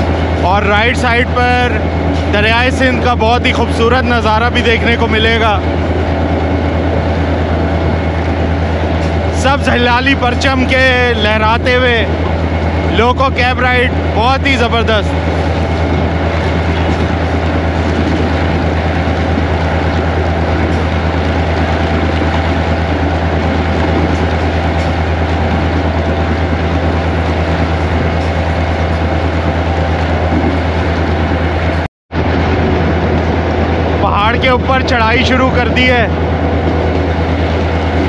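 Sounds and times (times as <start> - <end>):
locomotive engine drone: 0.0 - 38.0
moving train noise: 0.0 - 38.0.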